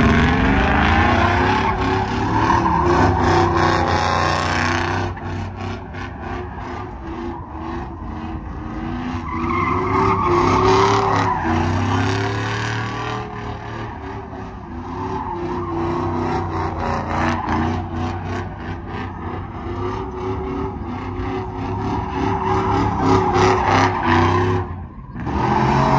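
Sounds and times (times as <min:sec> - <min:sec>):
truck engine at high revs: 0:00.0 - 0:25.9.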